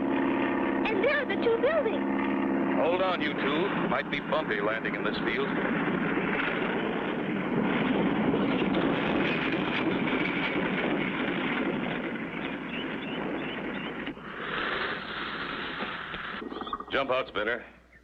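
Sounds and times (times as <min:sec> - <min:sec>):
propeller airplane engine drone: 0:00.0 - 0:18.0.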